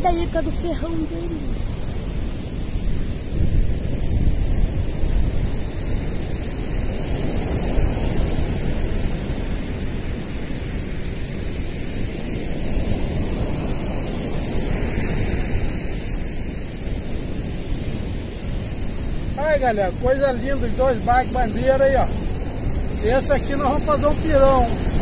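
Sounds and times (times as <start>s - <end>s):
ocean surf washing in: 0.0s - 25.0s
wind buffeting microphone: 0.0s - 25.0s.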